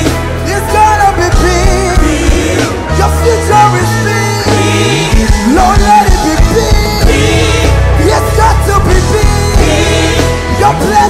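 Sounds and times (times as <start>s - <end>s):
bass guitar notes: 0.0s - 11.0s
drum kit: 0.0s - 11.0s.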